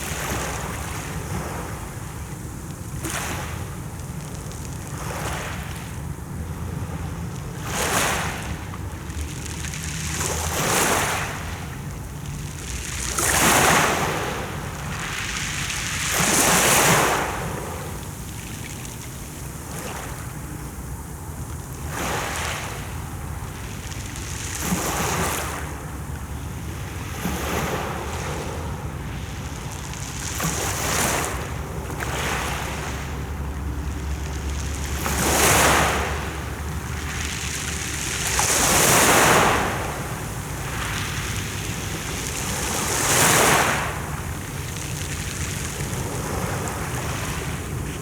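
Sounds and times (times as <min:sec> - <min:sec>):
waves washing onto shore: 0:00.0 - 0:48.0.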